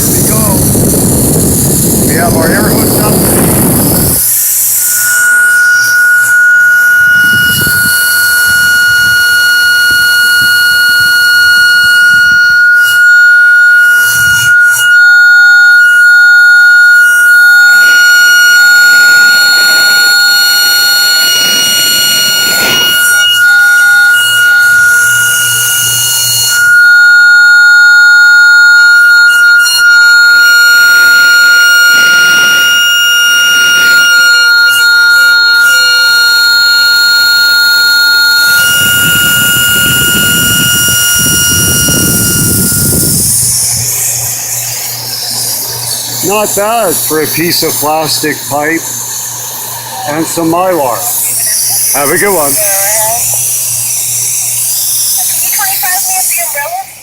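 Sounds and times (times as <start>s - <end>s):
lower wavering horn tone: 0.0s - 56.6s
air horn high tone: 0.0s - 57.0s.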